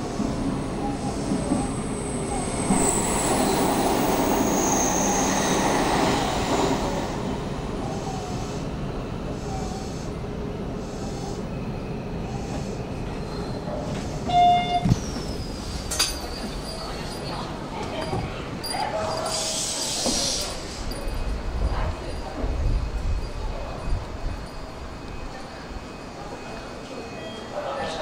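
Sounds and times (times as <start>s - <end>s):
electric train wheel squeal: 0.8s - 7.4s, 11.1s - 28.0s.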